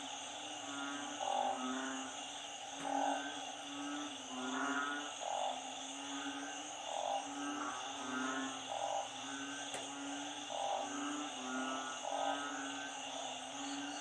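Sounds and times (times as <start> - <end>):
frogs calling: 0.0 - 14.0
steady high hiss: 0.0 - 14.0.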